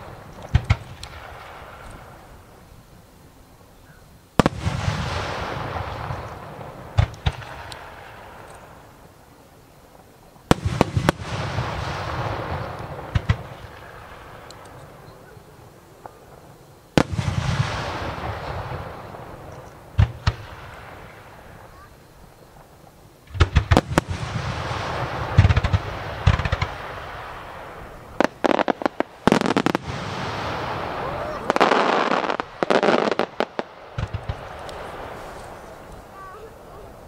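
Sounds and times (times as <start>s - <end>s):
firework shells bursting: 0.0s - 2.5s, 4.4s - 9.0s, 10.0s - 36.6s
sharp firework reports: 4.4s - 9.0s, 10.4s - 37.0s.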